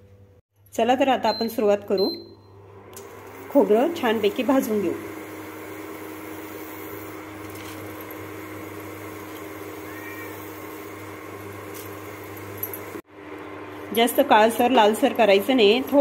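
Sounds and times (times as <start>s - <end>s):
induction cooktop hum and fan: 0.0s - 16.0s.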